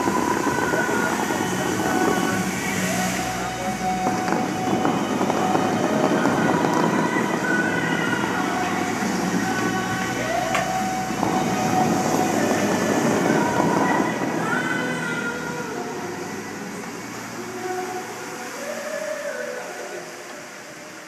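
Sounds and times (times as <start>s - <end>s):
fountain water jets rushing: 0.0s - 21.0s.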